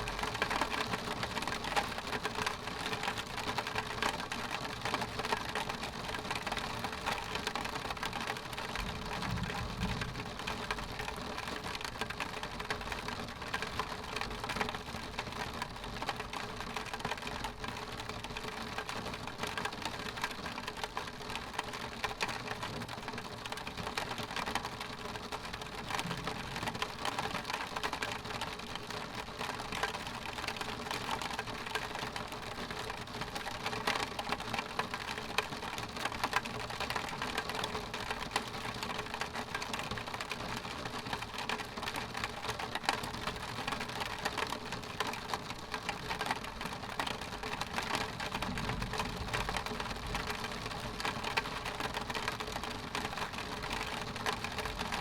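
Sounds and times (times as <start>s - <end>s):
raindrops ticking on glass: 0.0s - 55.0s.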